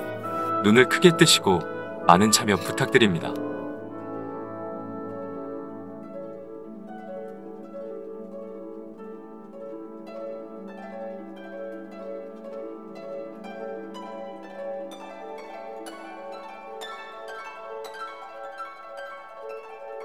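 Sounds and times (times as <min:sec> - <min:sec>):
gentle plucked melody: 0:00.0 - 0:20.0.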